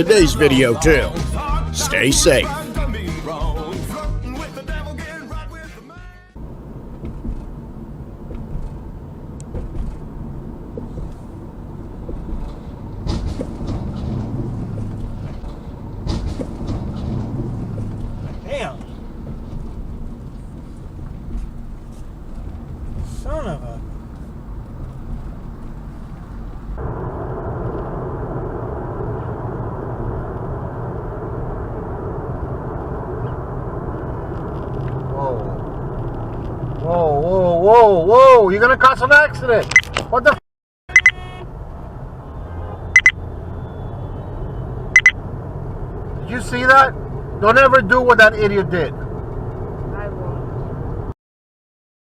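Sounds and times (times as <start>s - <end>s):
car road and engine rumble: 0.0s - 51.2s.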